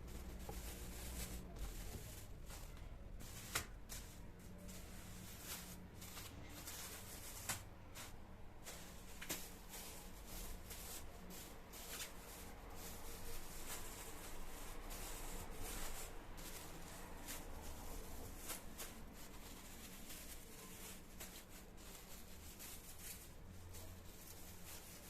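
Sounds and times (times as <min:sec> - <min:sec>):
rubbing and rustling: 0:00.0 - 0:25.0.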